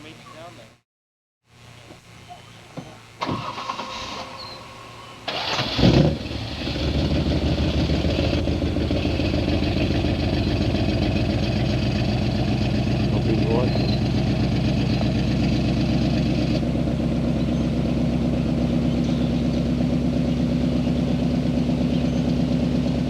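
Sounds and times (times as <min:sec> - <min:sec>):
car engine starting and idling: 0:03.2 - 0:23.0.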